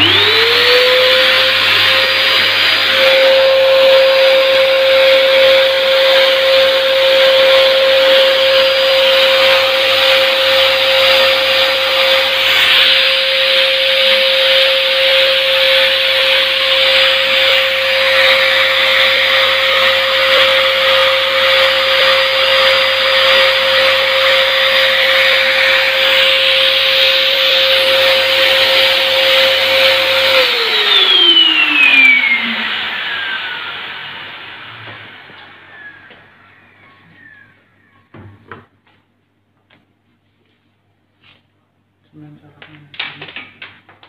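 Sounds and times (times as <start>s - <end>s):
fogger blower motor whining: 0.0s - 37.4s.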